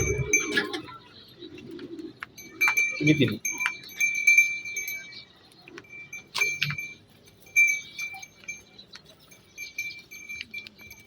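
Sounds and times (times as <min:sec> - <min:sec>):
small metal bells jingling: 0:00.0 - 0:01.1, 0:02.2 - 0:11.0.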